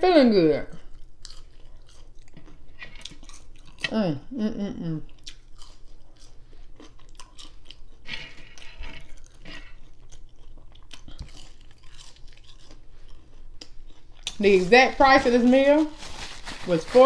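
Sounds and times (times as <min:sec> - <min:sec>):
person chewing crunchy fries: 0:00.8 - 0:04.3, 0:04.9 - 0:16.8.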